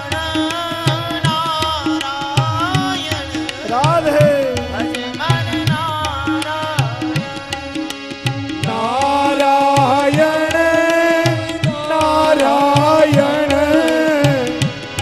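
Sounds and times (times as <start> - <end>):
tabla drumming: 0.0 - 15.0.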